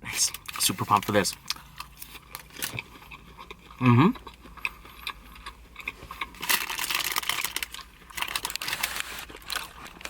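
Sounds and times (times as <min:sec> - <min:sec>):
close-up chewing: 0:00.3 - 0:10.0.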